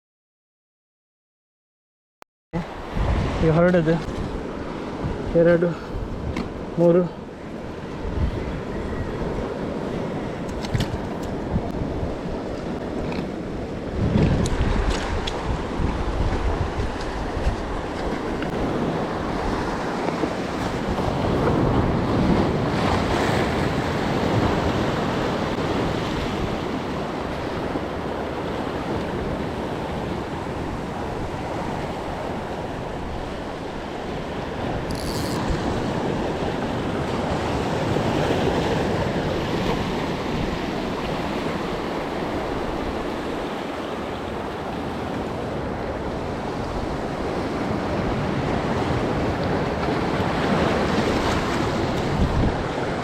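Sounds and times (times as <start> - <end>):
sea waves washing: 2.6 - 53.0
wind on microphone: 2.7 - 6.8, 7.4 - 53.0.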